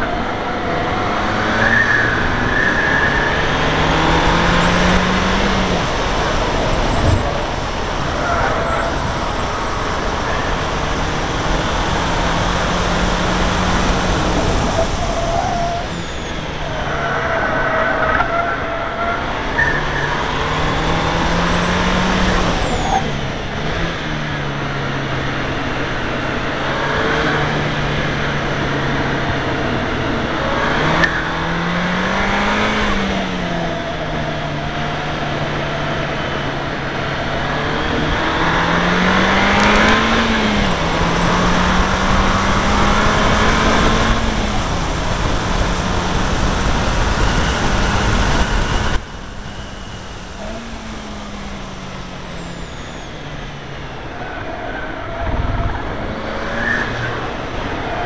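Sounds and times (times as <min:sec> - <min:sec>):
car engine at speed: 0:00.0 - 0:58.0
wind and road noise: 0:00.0 - 0:58.0.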